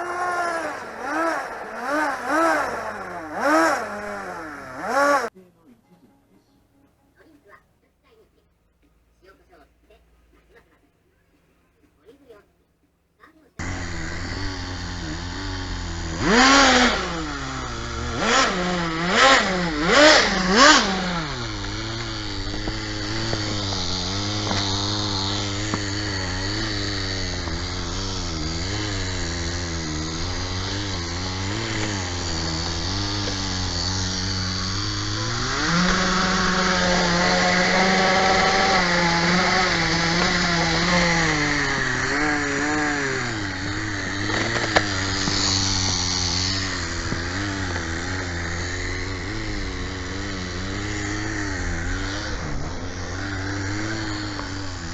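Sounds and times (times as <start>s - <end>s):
small nitro engine revving: 0.0s - 5.3s, 13.6s - 54.9s.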